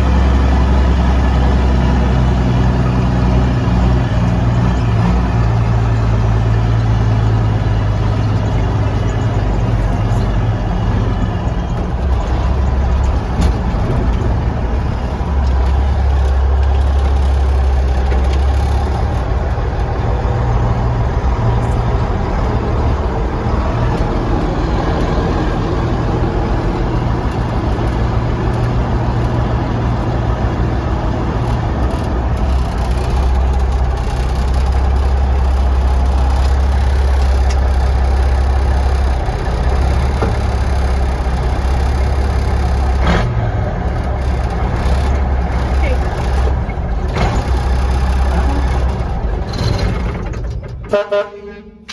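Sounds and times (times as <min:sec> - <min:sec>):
diesel truck engine droning: 0:00.0 - 0:51.9.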